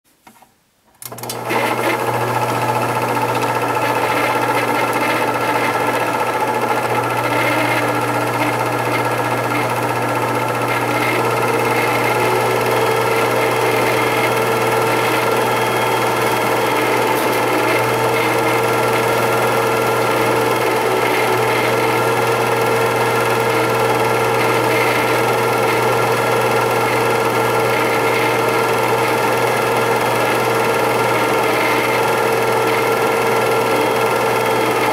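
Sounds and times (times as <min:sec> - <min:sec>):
film projector whirring: 0:01.0 - 0:34.9.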